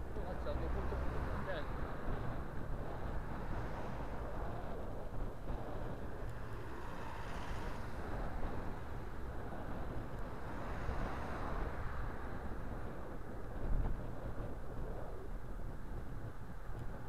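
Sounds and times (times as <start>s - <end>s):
road traffic: 0.0s - 17.0s
wind rushing over microphone: 0.0s - 17.0s.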